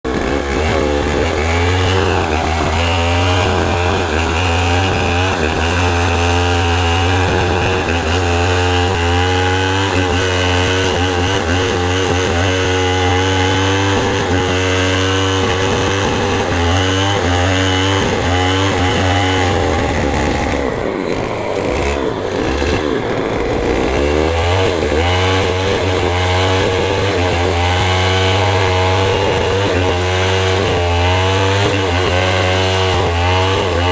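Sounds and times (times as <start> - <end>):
power tool cutting wood: 0.0 - 33.9.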